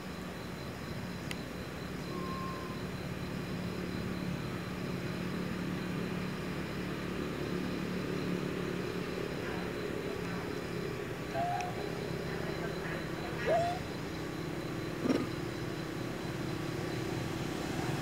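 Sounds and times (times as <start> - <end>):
distant motor droning: 0.0 - 18.0.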